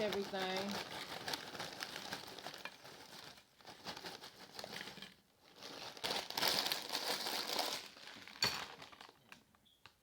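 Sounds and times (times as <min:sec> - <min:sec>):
packaging crinkling: 0:00.0 - 0:09.5.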